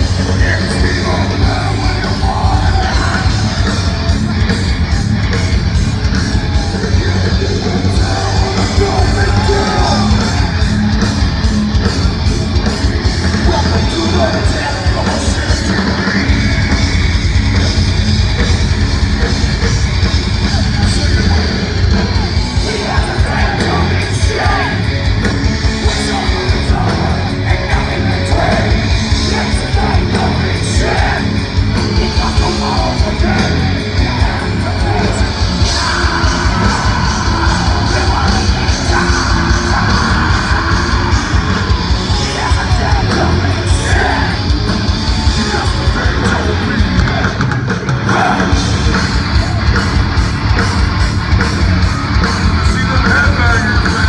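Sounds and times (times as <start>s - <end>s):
singer shouting vocals: 0.0s - 5.0s, 6.1s - 11.1s, 12.3s - 17.2s, 20.4s - 25.0s, 25.6s - 49.9s, 52.3s - 54.0s
heavy metal band playing live: 0.0s - 54.0s.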